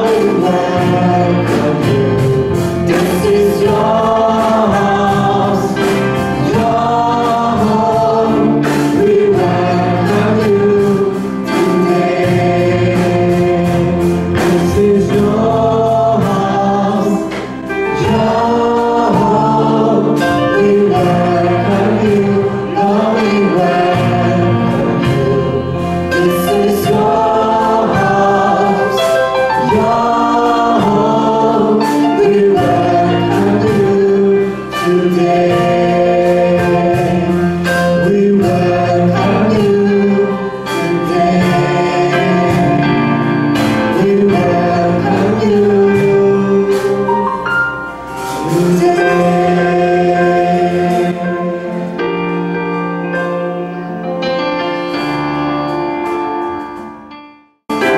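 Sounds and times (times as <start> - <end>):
drum and cymbal hits: 0.0 - 53.3
congregation singing a hymn: 0.0 - 57.1
band with drums and guitar: 0.0 - 57.9.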